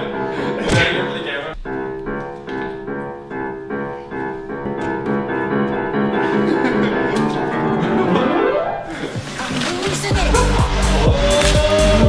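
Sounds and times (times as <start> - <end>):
piano repeated chords: 0.0 - 12.0.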